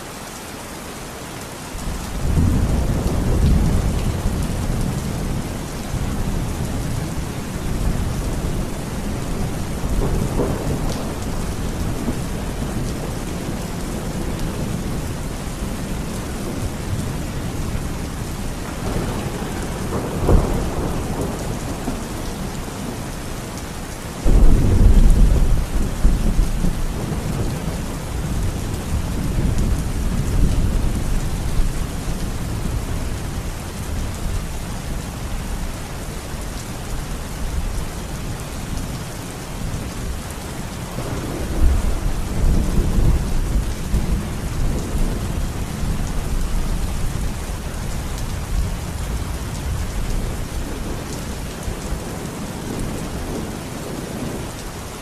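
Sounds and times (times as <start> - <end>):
heavy rain: 0.0 - 55.0
thunder rumbling and cracking: 2.1 - 23.1, 24.2 - 34.4, 39.6 - 54.4.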